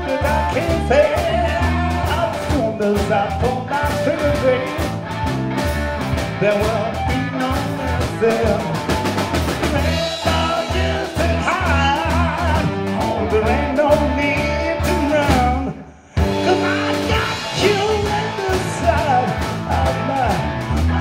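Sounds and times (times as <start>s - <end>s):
man singing: 0.0s - 4.9s, 6.4s - 21.0s
live rock band playing: 0.0s - 21.0s.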